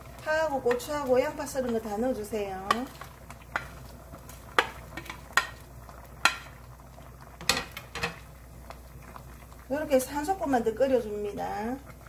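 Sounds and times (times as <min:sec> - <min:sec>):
soup bubbling: 0:00.0 - 0:12.0.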